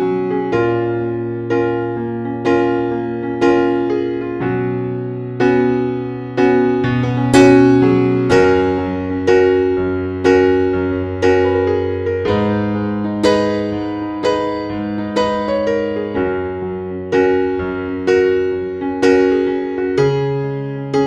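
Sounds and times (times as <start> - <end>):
slow electric piano music: 0.0 - 21.0.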